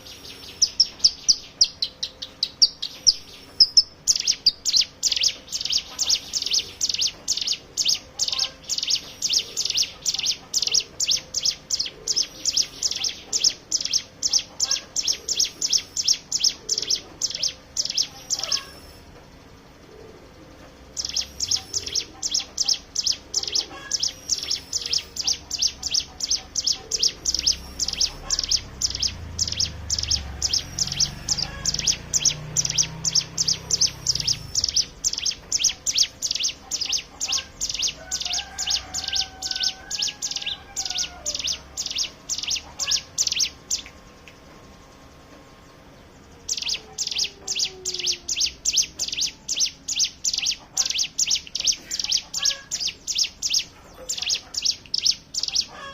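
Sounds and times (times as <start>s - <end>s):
bird singing high chip notes: 0.0s - 55.9s.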